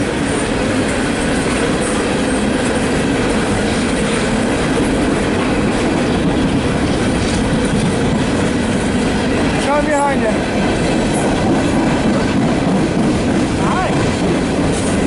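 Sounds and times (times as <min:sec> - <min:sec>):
steel wheels on rail: 0:00.0 - 0:15.0.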